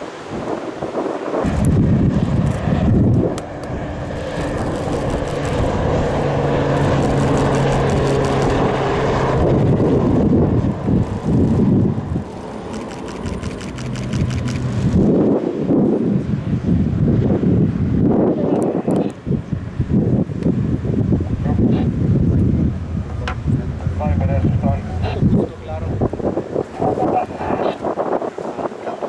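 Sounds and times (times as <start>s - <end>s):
wind buffeting microphone: 0.0s - 29.0s
aircraft engine drone: 1.3s - 29.0s.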